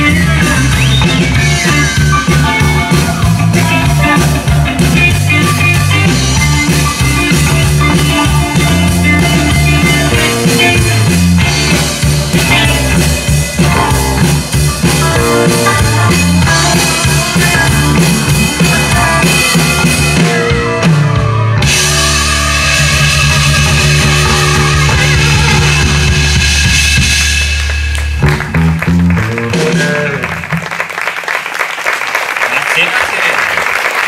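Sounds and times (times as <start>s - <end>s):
rock band playing: 0.0s - 31.3s.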